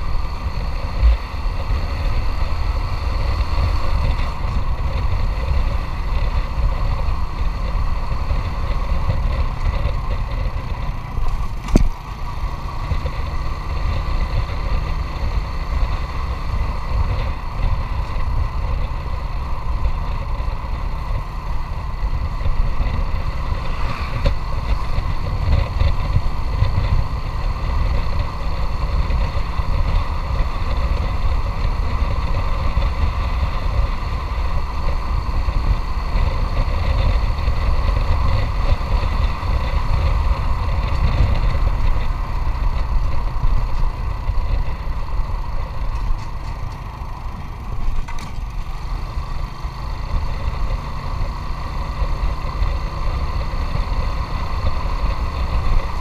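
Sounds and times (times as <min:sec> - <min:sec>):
heavy low rumble: 0:00.0 - 0:49.5
motorcycle engine running: 0:00.0 - 0:56.0.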